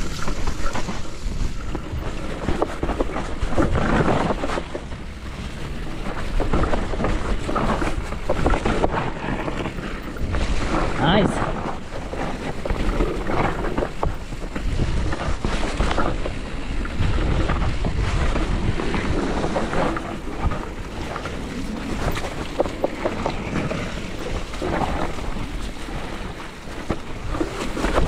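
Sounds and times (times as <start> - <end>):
bike knocks and rattles: 0.0 - 25.8
mountain bike rumbling on trail: 0.0 - 28.0
wind buffeting the microphone: 0.0 - 28.0.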